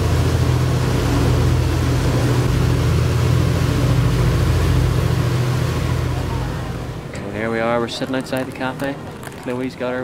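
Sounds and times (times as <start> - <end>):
boat engine droning: 0.0 - 10.0
rush of wind and water: 0.0 - 10.0.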